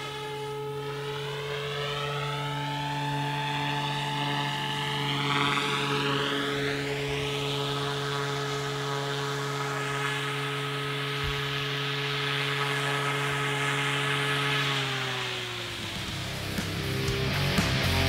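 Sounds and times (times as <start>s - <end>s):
rc helicopter rotor humming: 0.0s - 18.0s.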